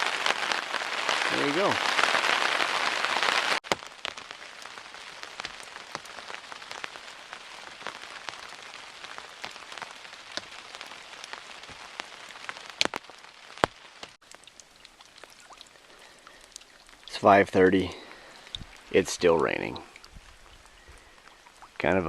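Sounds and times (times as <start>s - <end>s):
rain falling: 0.0s - 22.0s
raindrops tapping: 0.0s - 22.0s.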